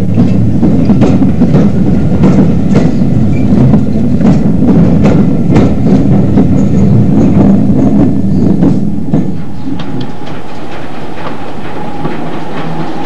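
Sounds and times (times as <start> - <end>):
train coaches rumbling: 0.0 - 13.0.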